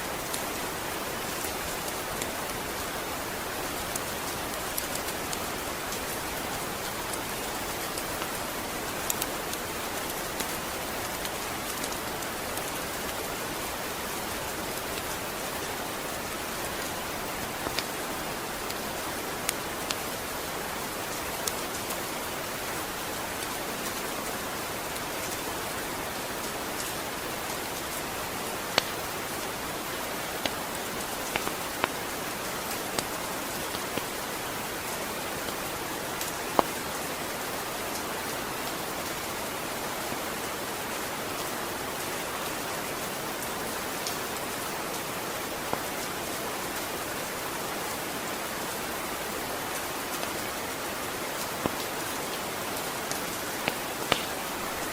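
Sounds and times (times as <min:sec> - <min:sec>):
rain falling: 0:00.0 - 0:54.9
sharp rain ticks: 0:00.0 - 0:54.9.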